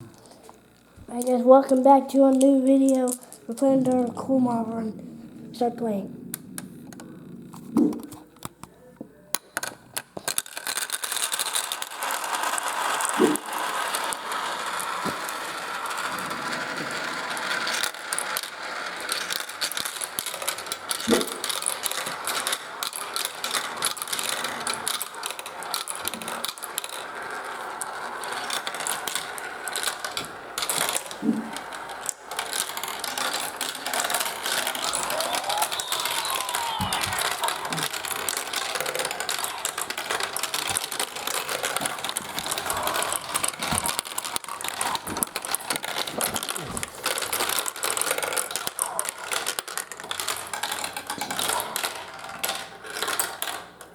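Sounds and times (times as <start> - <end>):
marbles rattling on plastic tracks: 0.0 - 8.6, 9.4 - 53.9.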